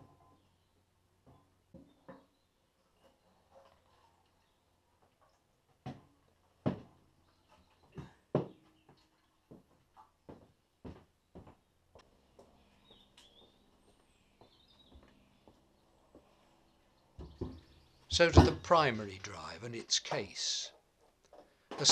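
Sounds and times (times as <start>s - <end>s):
faint birdsong: 0.0s - 21.7s.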